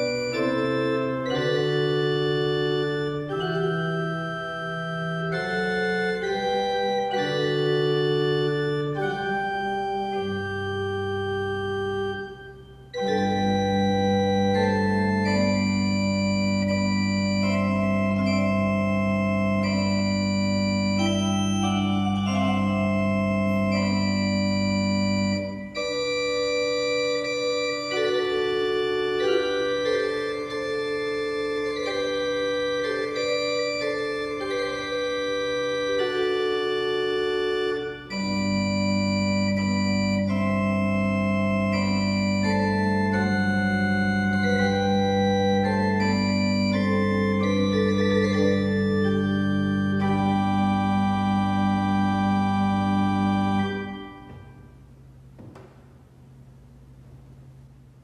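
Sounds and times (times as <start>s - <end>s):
low organ pedal note: 0.0s - 57.7s
church organ chords: 0.0s - 58.0s.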